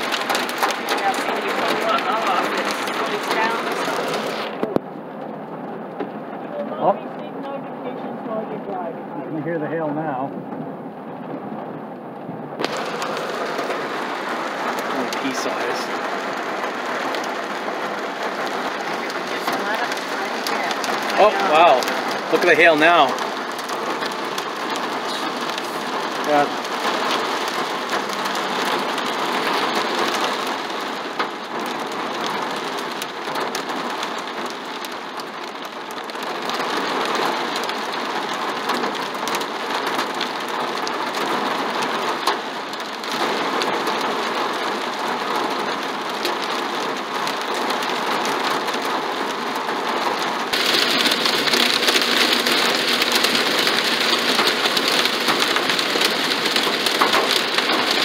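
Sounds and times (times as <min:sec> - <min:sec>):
rain and hail on car roof: 0:00.0 - 0:58.0.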